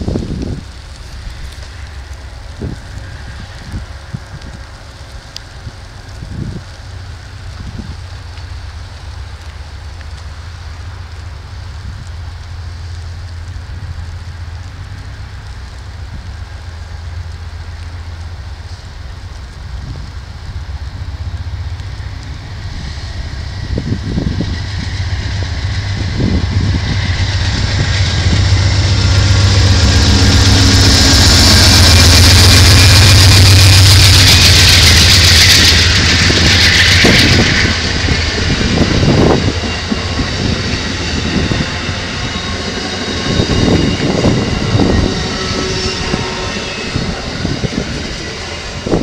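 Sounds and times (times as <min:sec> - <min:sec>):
locomotive engine hum: 0:00.0 - 0:49.0.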